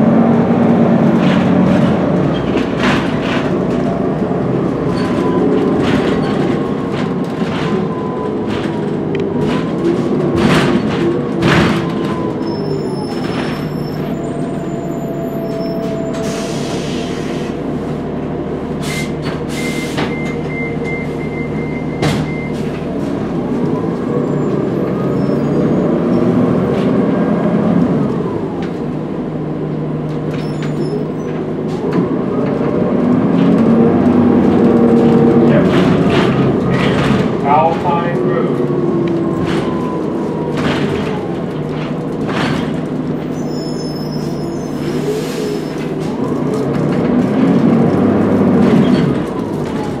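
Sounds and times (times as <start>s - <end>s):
bus engine whine: 0.0s - 50.0s.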